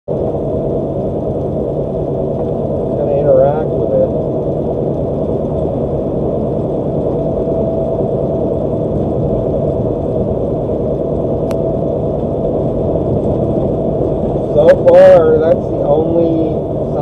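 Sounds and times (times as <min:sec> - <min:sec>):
engine and tyre rumble in cab: 0:00.1 - 0:17.0.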